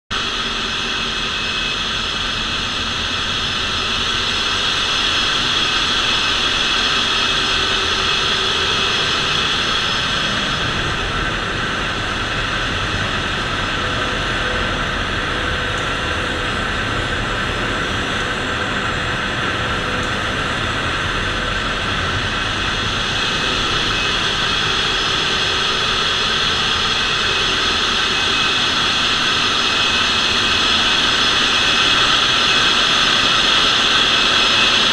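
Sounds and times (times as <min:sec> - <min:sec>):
engine room machinery drone: 0:00.1 - 0:34.9.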